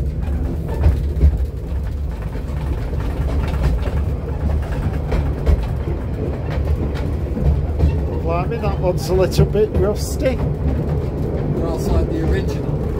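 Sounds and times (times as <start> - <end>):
railway carriage rumbling on track: 0.0 - 12.9
wheels knocking: 0.0 - 12.9.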